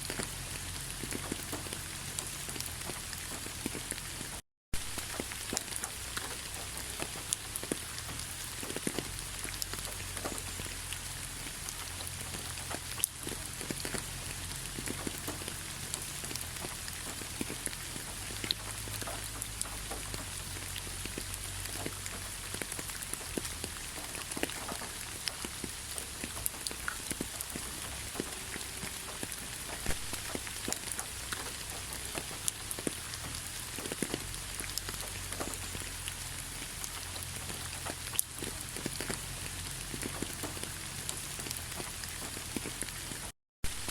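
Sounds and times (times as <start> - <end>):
rain pattering on surfaces: 0.0 - 43.9.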